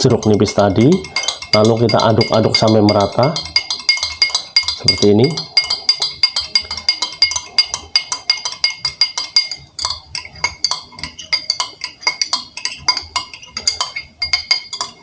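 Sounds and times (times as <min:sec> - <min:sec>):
spoon clinking against glass: 0:00.0 - 0:15.0.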